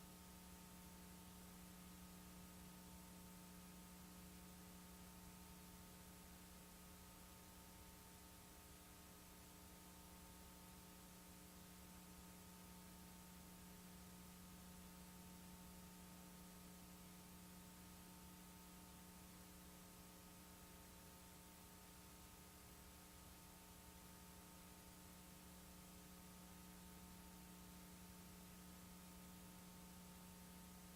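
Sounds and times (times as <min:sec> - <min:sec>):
steady electrical hum: 0:00.0 - 0:30.9.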